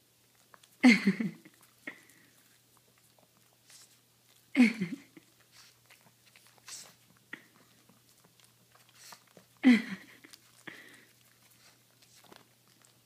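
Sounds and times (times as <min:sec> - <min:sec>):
dogs crunching apple: 0:00.0 - 0:13.0.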